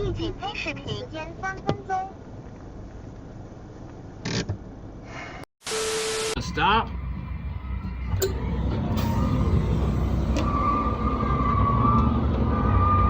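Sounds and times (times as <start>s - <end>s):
vehicle engine and road rumble: 0.0s - 5.2s, 6.6s - 13.0s.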